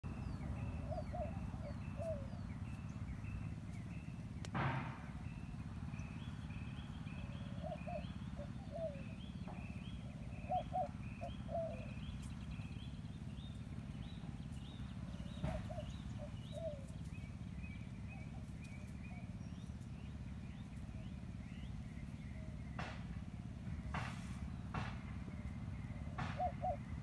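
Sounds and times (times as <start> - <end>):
birds chirping: 0.0 - 27.0
steady low hum: 0.0 - 27.0.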